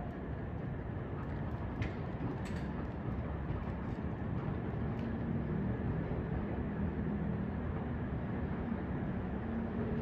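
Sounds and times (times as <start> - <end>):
town traffic: 0.0 - 10.0.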